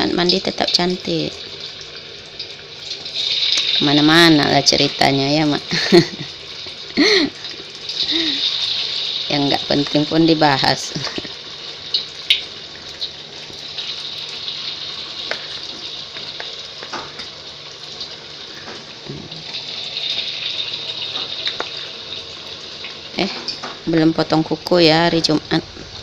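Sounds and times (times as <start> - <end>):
deep-frying in hot oil: 0.0 - 26.0.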